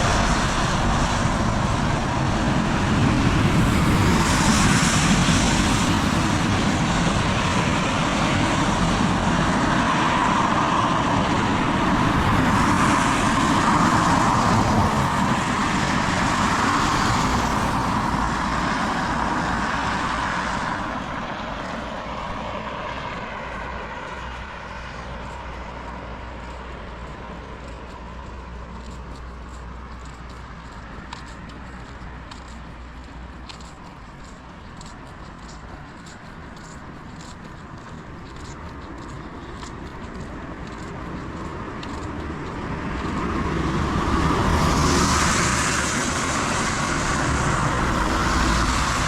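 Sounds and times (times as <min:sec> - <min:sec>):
tyres hissing on wet road: 0:00.0 - 0:49.0.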